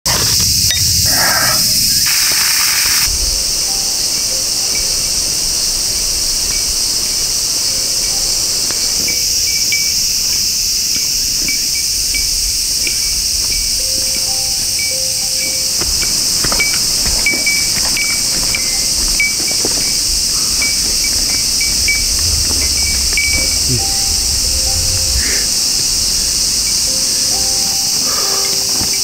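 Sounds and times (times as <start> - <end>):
cicadas droning: 0.0 - 29.0
harsh hiss: 0.1 - 29.0.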